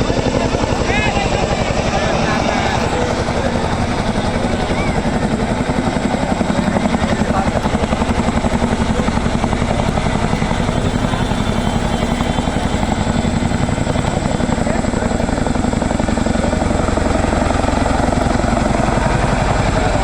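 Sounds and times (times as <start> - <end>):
helicopter engine noise: 0.0 - 20.0
helicopter rotors chopping: 0.0 - 20.0.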